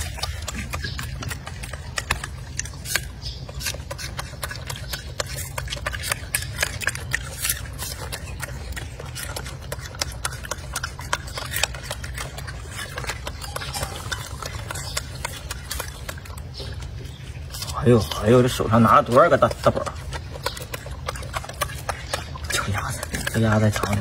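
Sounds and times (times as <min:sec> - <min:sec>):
monkey chewing fruit crunching: 0:00.0 - 0:24.0
steady low hum: 0:00.0 - 0:24.0.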